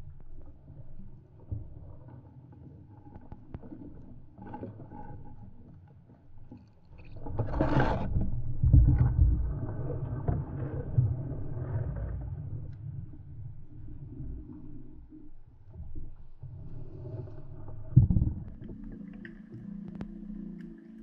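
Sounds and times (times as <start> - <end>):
underwater water rumble: 0.0 - 21.0.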